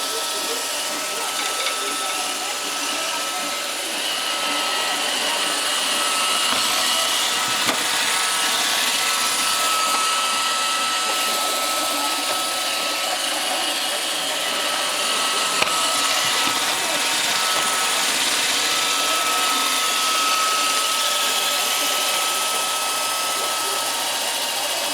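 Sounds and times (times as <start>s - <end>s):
robot vacuum whining: 0.0s - 24.9s.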